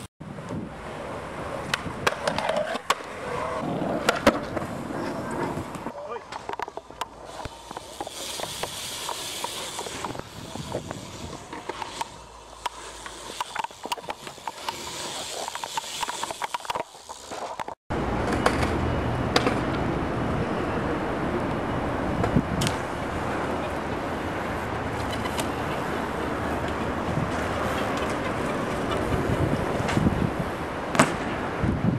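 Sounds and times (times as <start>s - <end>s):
bike tyres rolling on concrete: 0.0s - 20.0s, 21.4s - 31.9s.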